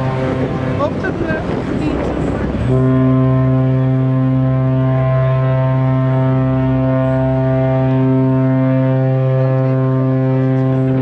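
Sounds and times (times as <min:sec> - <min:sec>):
ship's horn low blast: 0:00.0 - 0:11.0.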